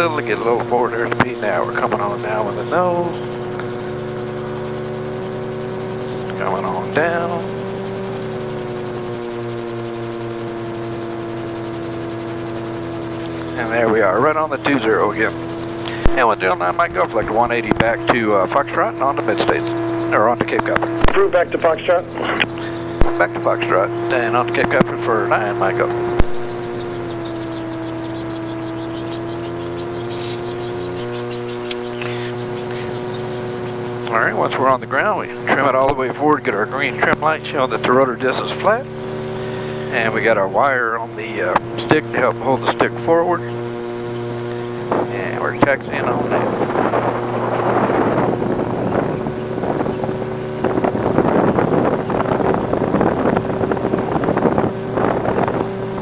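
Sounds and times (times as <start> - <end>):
engine idling hum: 0.0 - 56.0
rotor blades swishing: 0.0 - 56.0
wind buffeting microphone: 0.0 - 56.0.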